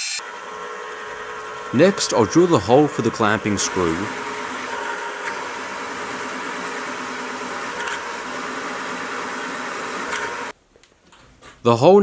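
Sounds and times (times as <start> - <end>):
milling machine humming: 0.0 - 10.6.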